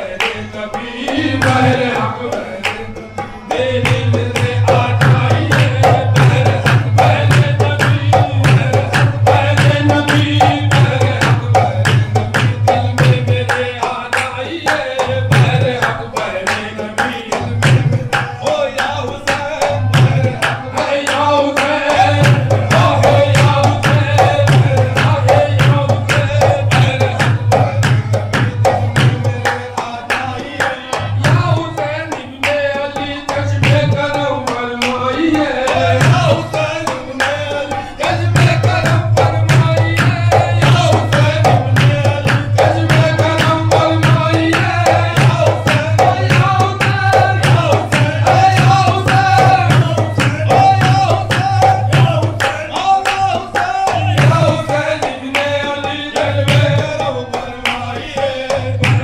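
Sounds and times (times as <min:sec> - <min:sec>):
tabla drumming: 0:00.0 - 0:59.0.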